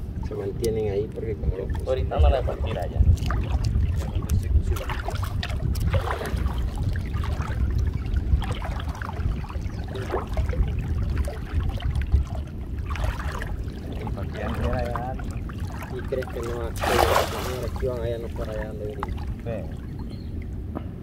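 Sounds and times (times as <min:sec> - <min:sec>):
wind on microphone: 0:00.0 - 0:21.0
person wading through water: 0:01.6 - 0:20.6.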